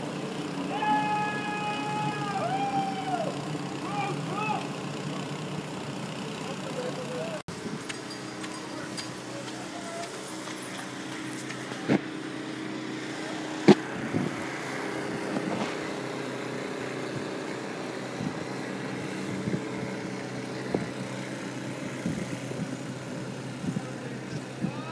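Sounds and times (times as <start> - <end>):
motor drone: 0.0 - 24.9.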